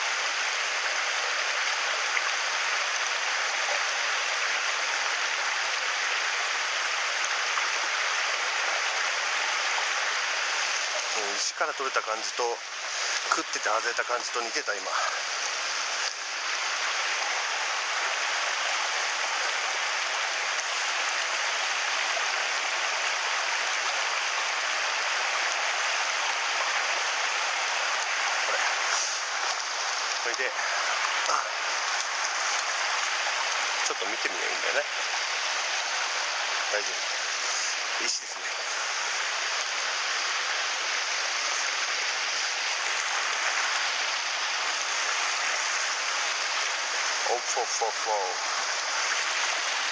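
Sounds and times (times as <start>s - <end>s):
stream water running over rocks: 0.0s - 49.9s.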